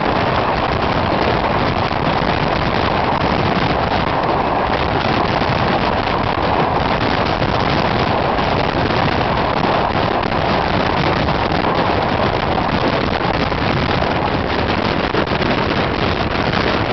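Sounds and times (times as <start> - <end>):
train rolling and wind noise: 0.0 - 16.9.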